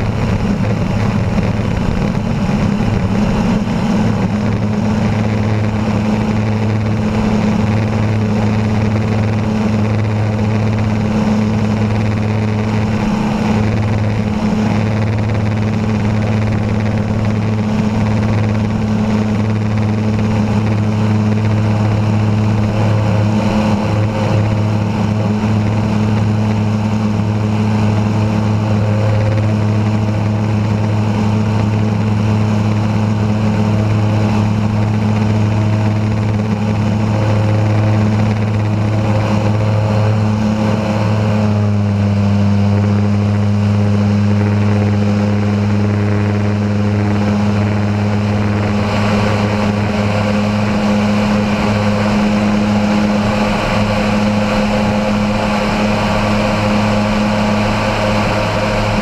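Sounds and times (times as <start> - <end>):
aircraft engine droning: 0.0 - 59.0
wind noise on microphone: 0.0 - 59.0.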